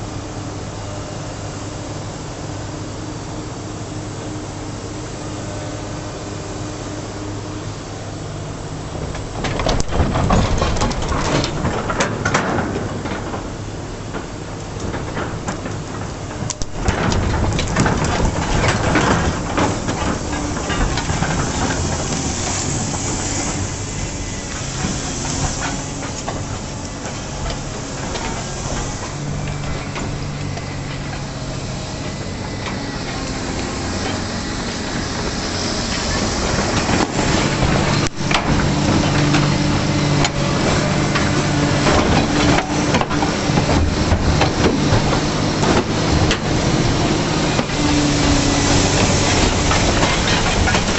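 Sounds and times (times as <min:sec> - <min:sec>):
diesel engine working under load: 0:00.0 - 0:50.9
knocks and clanks: 0:09.0 - 0:50.9.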